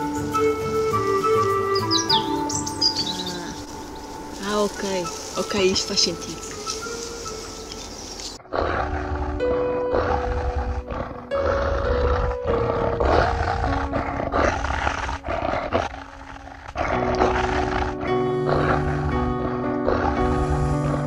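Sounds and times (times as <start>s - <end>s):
dramatic soundtrack music: 0.0s - 21.0s.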